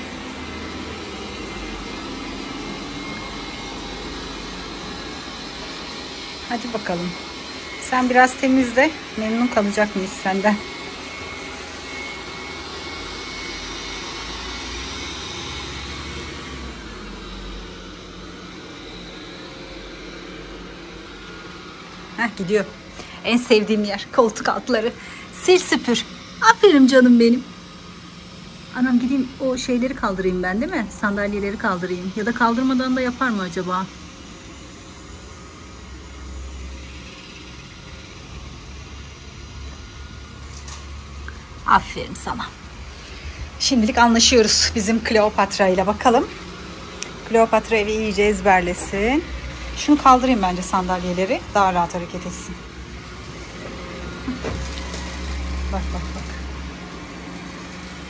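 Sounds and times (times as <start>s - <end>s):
robot vacuum whirring: 0.0s - 58.0s.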